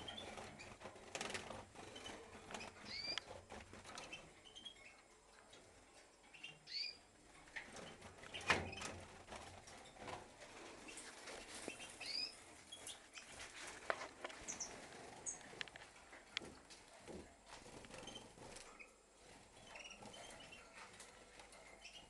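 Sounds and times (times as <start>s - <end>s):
small birds chirping: 0.0s - 8.9s, 9.7s - 16.3s, 17.9s - 22.0s.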